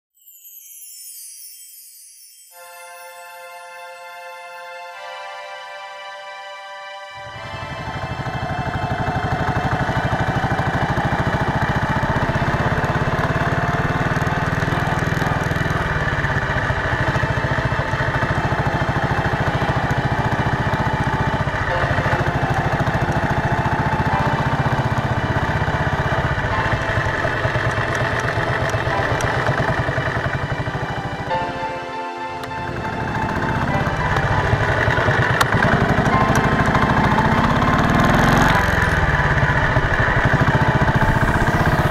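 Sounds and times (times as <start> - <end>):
motorcycle engine running: 7.2 - 31.7, 32.4 - 41.9.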